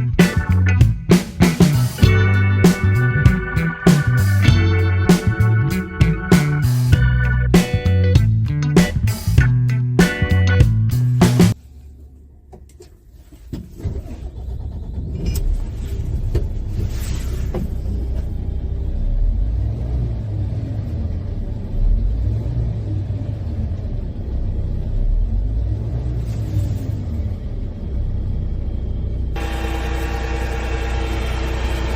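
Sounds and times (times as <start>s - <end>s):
truck diesel engine rumbling: 0.0s - 12.2s, 13.9s - 31.9s.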